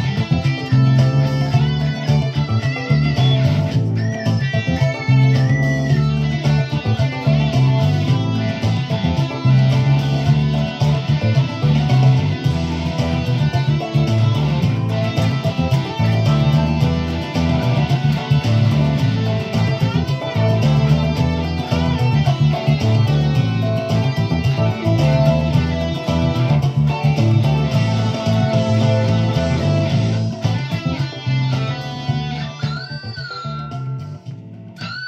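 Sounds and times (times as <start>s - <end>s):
electric guitar music: 0.0s - 35.0s
low bass line: 0.0s - 35.0s.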